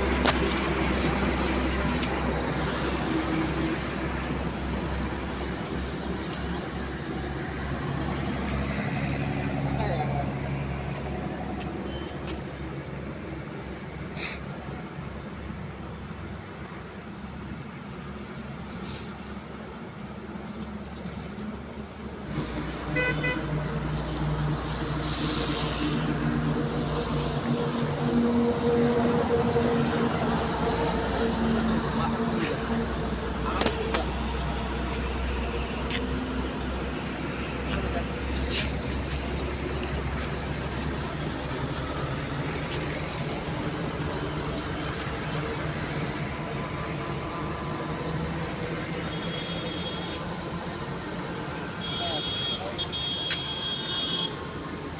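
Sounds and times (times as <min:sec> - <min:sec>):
vehicle engine hum: 0:00.0 - 0:54.9.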